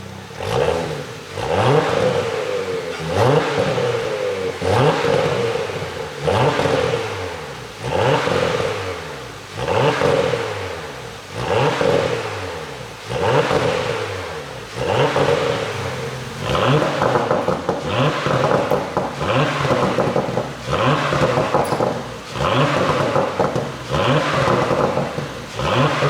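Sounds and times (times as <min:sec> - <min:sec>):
car engine revving: 0:00.0 - 0:26.0
exhaust pops and crackles: 0:00.0 - 0:26.0.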